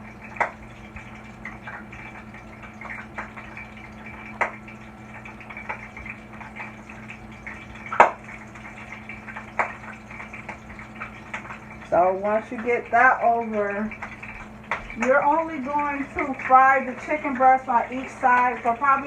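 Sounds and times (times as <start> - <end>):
hot oil crackling and popping: 0.0 - 19.0.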